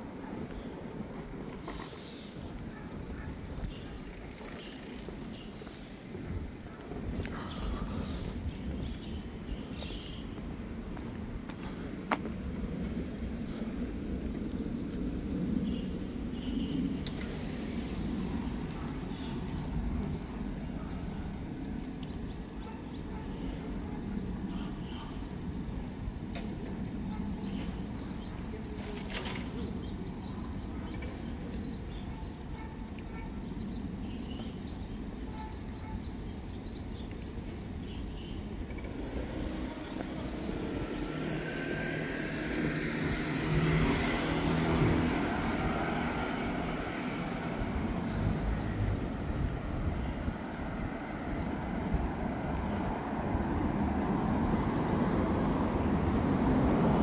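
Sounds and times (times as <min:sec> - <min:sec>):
city background rumble: 0:00.0 - 0:57.0.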